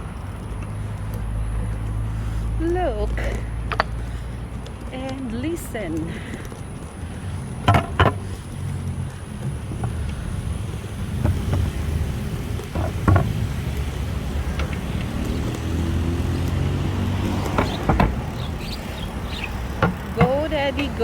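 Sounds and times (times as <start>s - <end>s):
road traffic passing: 0.0s - 21.0s
vehicle engine: 0.0s - 21.0s.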